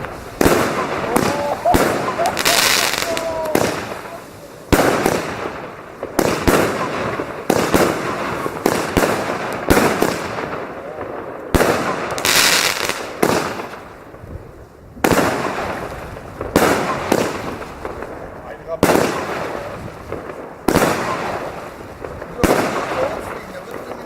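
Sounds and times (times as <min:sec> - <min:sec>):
firework hiss: 0:00.0 - 0:24.0
fireworks banging and crackling: 0:00.0 - 0:24.0.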